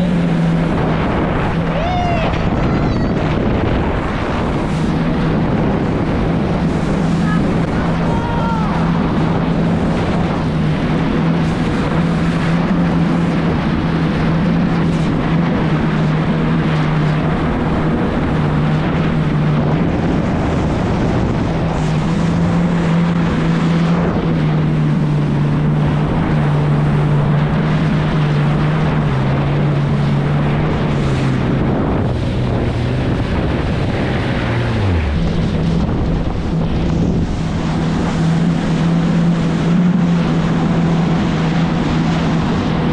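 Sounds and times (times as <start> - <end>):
jet ski engine running: 0.0 - 42.9
rushing water: 0.0 - 42.9
wind on microphone: 0.0 - 42.9.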